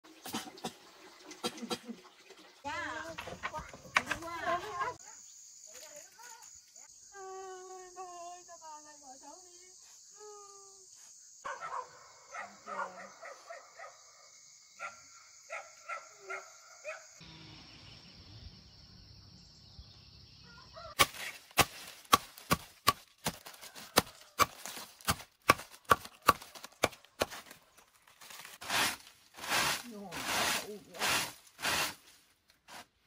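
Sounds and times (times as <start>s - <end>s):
insects chirring: 2.7s - 31.0s.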